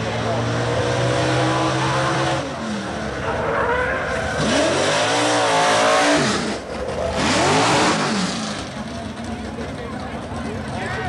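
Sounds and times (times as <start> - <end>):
racing engine revving: 0.0 - 9.7
crowd voices: 0.0 - 11.0.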